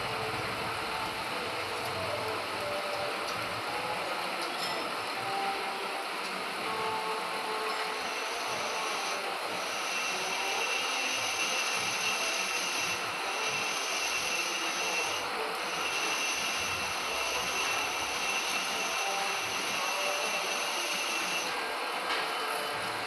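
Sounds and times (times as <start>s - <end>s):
metal lathe running: 0.0s - 23.0s.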